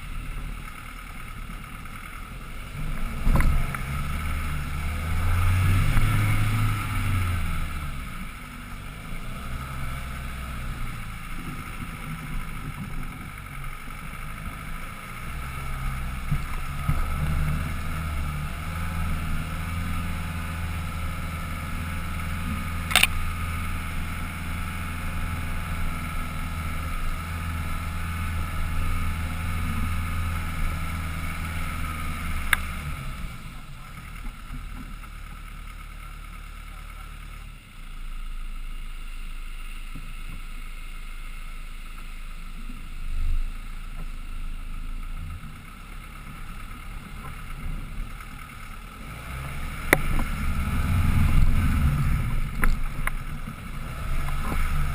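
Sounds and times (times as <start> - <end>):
engine droning at low revs: 0.0 - 54.9.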